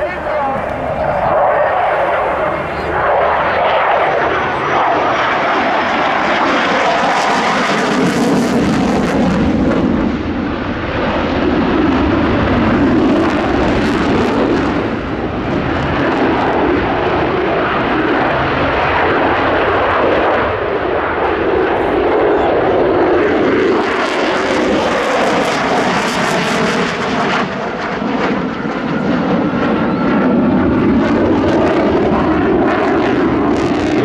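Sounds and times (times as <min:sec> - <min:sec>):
jet engine running: 0:00.0 - 0:34.0.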